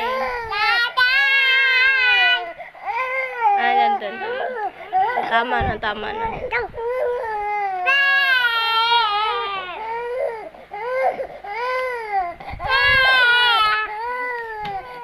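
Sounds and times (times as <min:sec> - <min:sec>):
baby crying: 0:00.0 - 0:05.4, 0:06.2 - 0:15.0.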